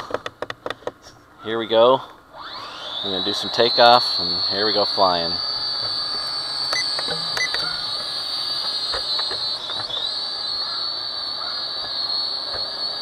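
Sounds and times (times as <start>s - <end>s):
quadcopter motors whining: 2.2s - 13.0s.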